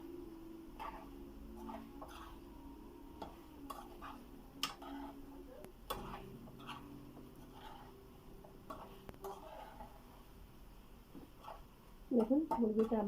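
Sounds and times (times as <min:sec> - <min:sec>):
spoon scraping a cooking pan: 0:00.7 - 0:10.4, 0:11.1 - 0:13.0.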